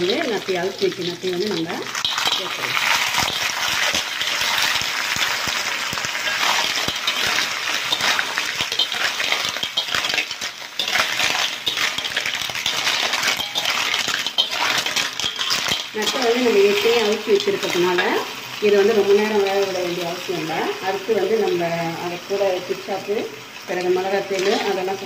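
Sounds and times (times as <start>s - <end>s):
metal spatula stirring: 0.0s - 20.0s, 23.8s - 25.0s
clam shells clinking in a wok: 0.0s - 21.9s, 23.7s - 25.0s
hot oil sizzling: 0.0s - 25.0s.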